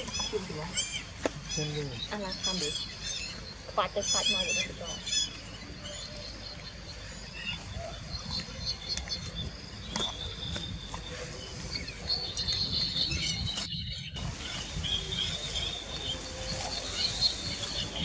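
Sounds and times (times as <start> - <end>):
high insect chirping: 0.0 - 18.0.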